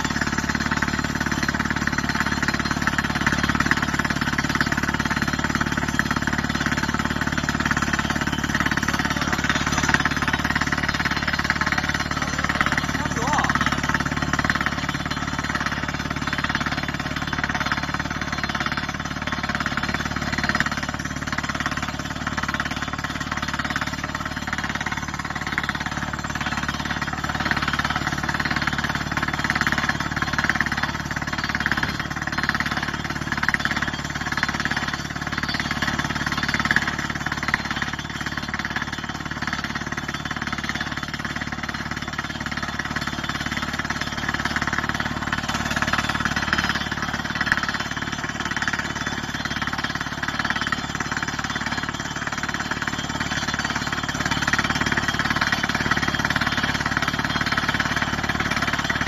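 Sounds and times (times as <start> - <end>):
drill hammering into rock: 0.0 - 59.0.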